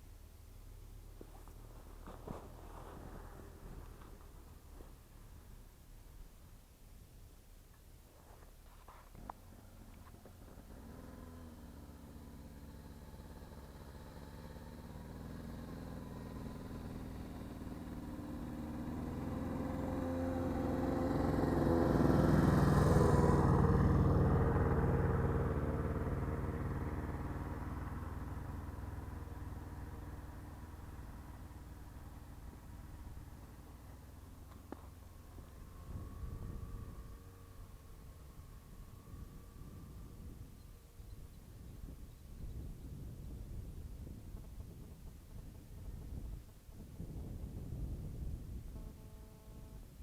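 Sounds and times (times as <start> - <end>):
vehicle engine passing by: 1.3 - 5.0, 9.5 - 46.4.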